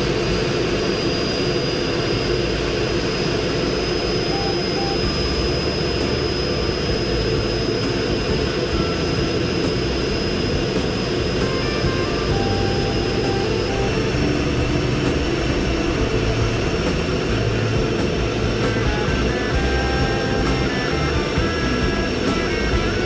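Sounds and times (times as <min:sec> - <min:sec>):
high constant whine: 0:00.0 - 0:23.0
jet engine and airflow rush: 0:00.0 - 0:23.0.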